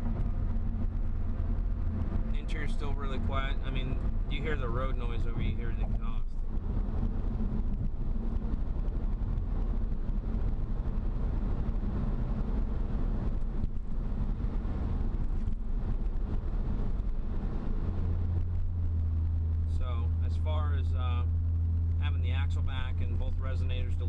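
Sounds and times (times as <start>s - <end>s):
low exhaust hum: 0.0s - 24.0s
road and tyre noise in car cabin: 0.0s - 24.0s.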